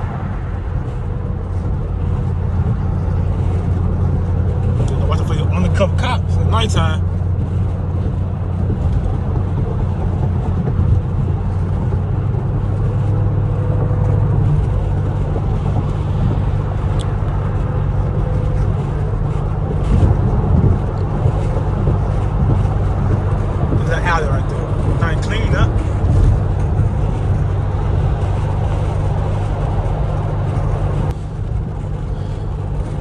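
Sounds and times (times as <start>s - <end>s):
car exhaust drone: 0.0s - 33.0s.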